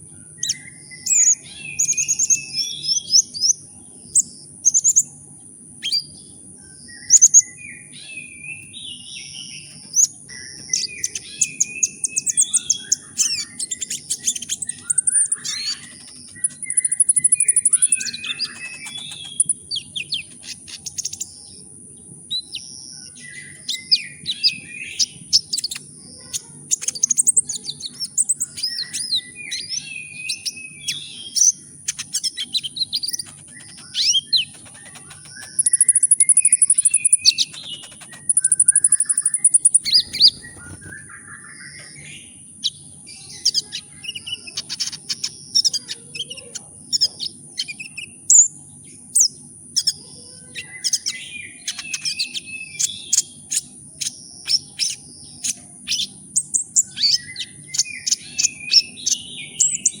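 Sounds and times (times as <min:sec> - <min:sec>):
faint low hum: 0:00.0 - 1:00.0
songbird singing: 0:00.0 - 1:00.0.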